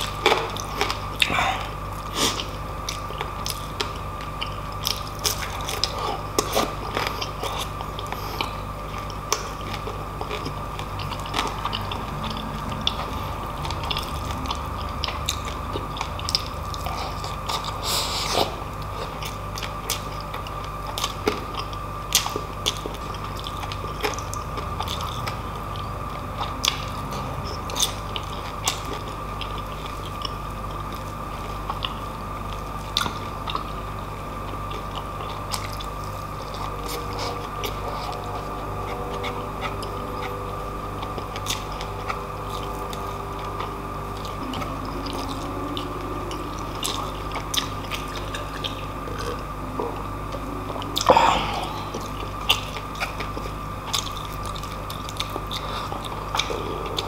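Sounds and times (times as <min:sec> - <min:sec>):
chewing and biting food: 0:00.0 - 0:57.0
steady low hum: 0:00.0 - 0:57.0.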